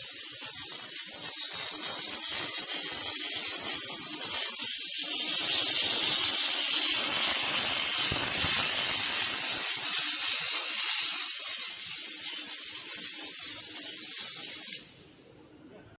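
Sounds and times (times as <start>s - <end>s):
welding arc hissing and crackling: 0.0s - 15.0s.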